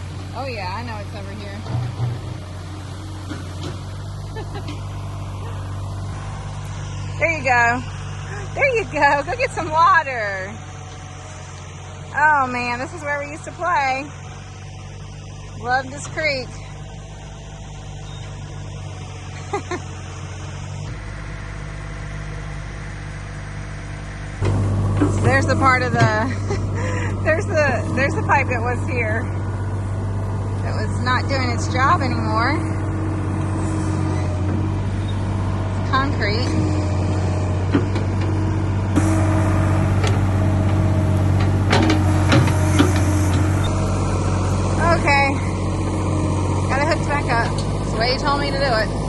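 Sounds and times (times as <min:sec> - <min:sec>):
engine idling: 0:00.0 - 0:49.0.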